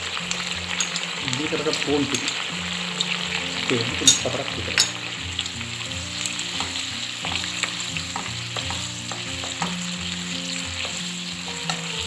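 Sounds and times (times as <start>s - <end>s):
sauce sizzling in a frying pan: 0.0s - 12.0s.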